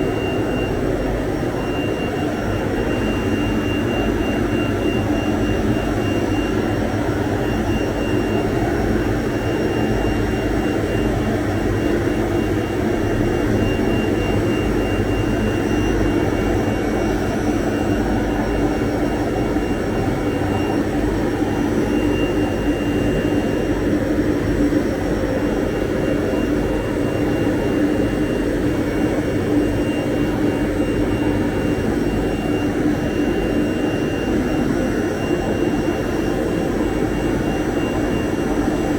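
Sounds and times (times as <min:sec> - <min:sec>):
cnc router drone with whine: 0:00.0 - 0:38.9.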